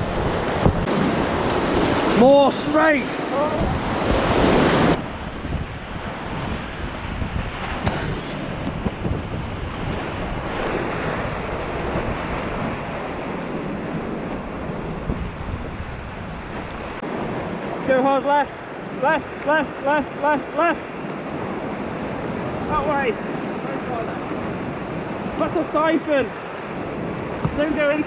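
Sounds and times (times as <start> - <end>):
whitewater rushing: 0.0 - 28.0.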